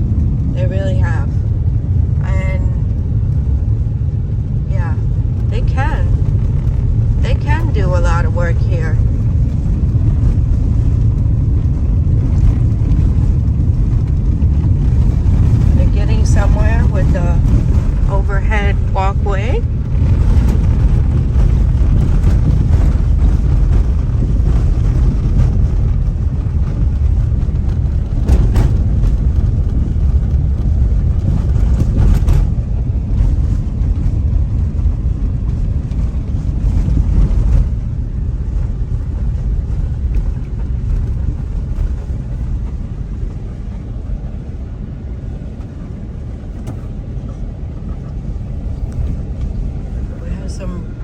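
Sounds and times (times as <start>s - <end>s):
car tyres and engine rumble: 0.0s - 51.0s
wind noise on microphone: 0.0s - 51.0s.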